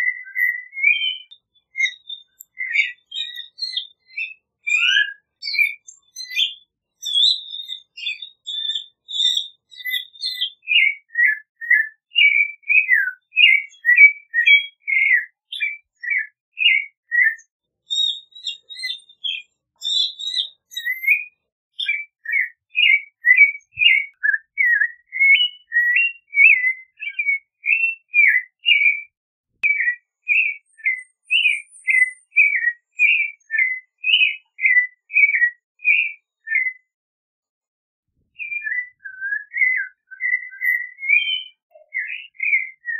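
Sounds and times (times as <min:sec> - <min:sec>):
thrush singing whistled notes: 0:00.0 - 0:29.0, 0:29.6 - 0:36.9, 0:38.4 - 0:42.9.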